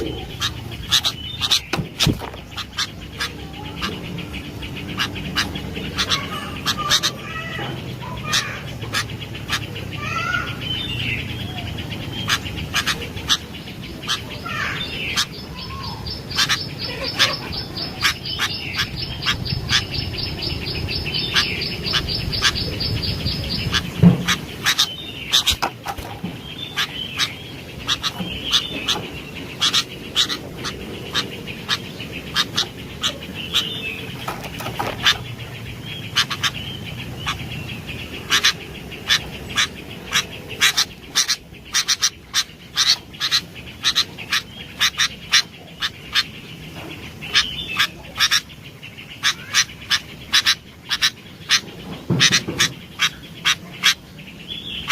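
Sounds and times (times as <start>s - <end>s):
bird chirps: 0.0s - 54.9s
bird warbling chatter: 0.0s - 54.9s.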